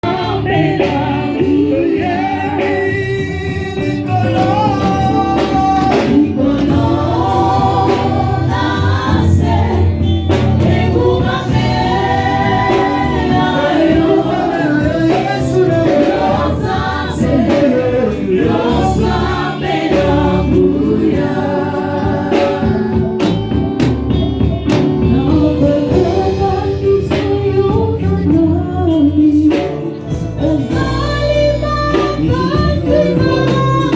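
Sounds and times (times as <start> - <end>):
group singing gospel with band: 0.0 - 33.9.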